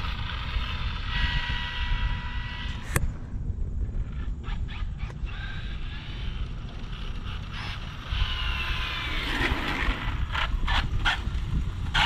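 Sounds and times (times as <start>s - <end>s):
toy car motor whine: 0.0s - 3.0s, 4.1s - 11.3s
wind rumbling on microphone: 0.0s - 12.0s.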